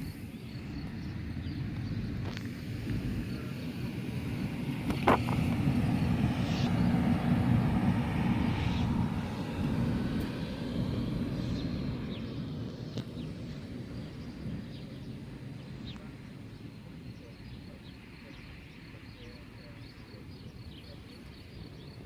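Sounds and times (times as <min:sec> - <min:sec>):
vehicle engine rumble passing: 0:00.0 - 0:18.2.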